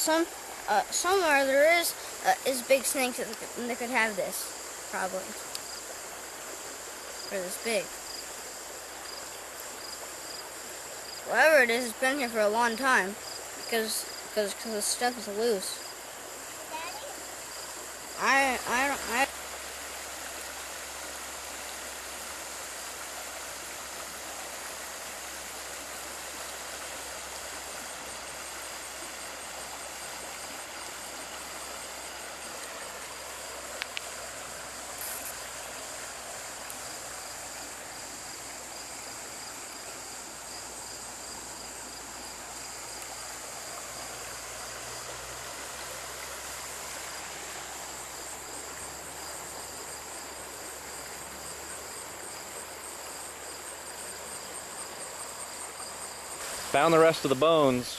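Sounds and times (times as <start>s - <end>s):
insects chirping: 0.0s - 57.9s
stream rushing: 0.0s - 57.9s.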